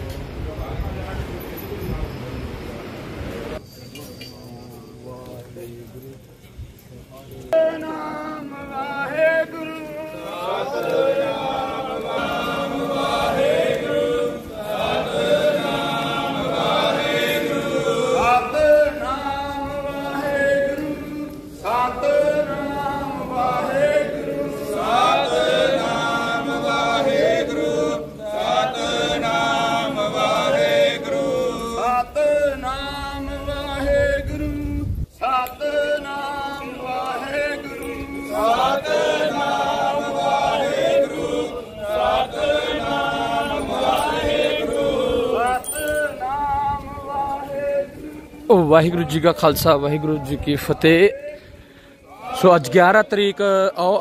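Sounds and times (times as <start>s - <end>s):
group singing devotional chant: 7.5s - 54.0s.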